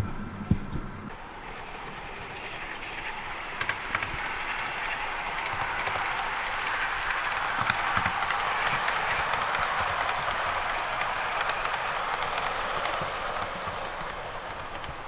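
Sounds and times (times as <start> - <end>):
model train rattling hum: 0.0 - 15.0.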